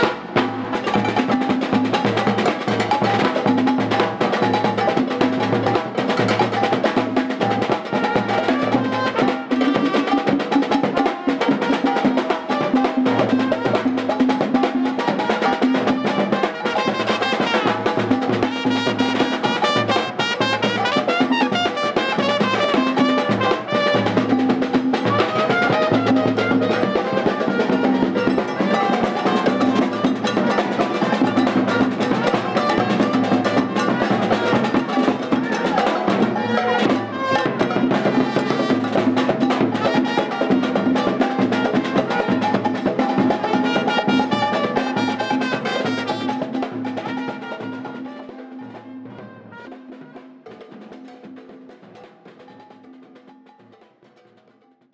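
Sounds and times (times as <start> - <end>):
trumpet: 0.0 - 51.3
drums keeping steady rhythm: 0.0 - 54.9.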